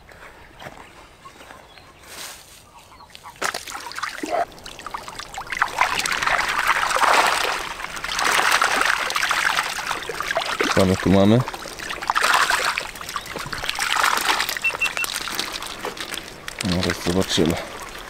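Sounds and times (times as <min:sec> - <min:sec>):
water splashing and trickling: 0:03.1 - 0:18.0.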